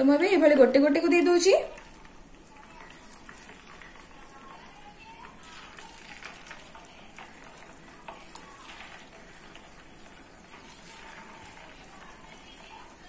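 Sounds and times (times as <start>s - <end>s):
fritters sizzling in oil: 1.0s - 13.0s.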